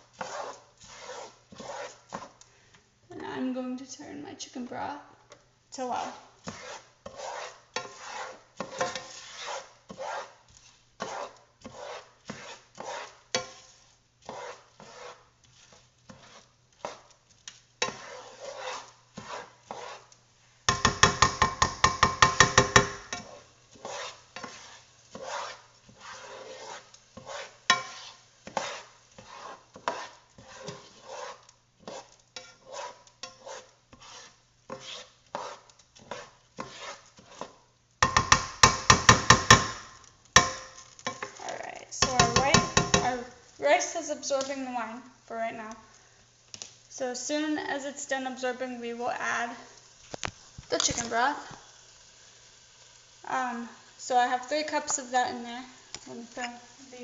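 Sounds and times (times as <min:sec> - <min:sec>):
spoon stirring rice in a pan: 0:00.0 - 0:02.9, 0:04.5 - 0:57.0.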